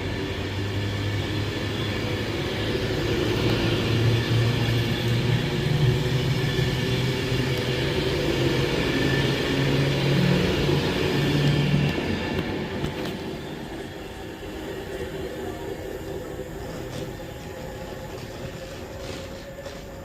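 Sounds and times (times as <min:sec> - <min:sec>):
train rumble and hum: 0:00.0 - 0:20.0.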